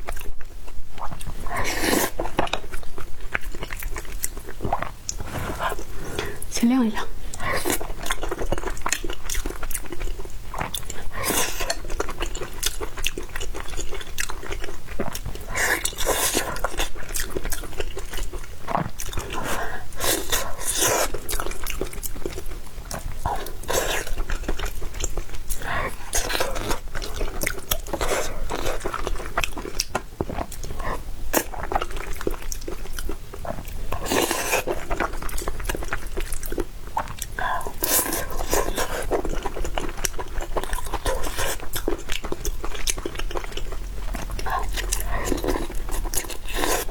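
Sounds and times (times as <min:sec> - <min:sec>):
wet chewing and smacking: 0:00.0 - 0:46.9.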